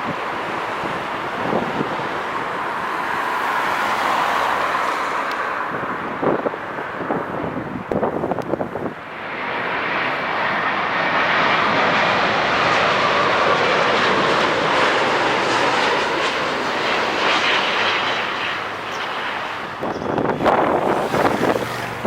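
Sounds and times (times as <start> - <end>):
jet airliner landing: 0.0 - 22.0.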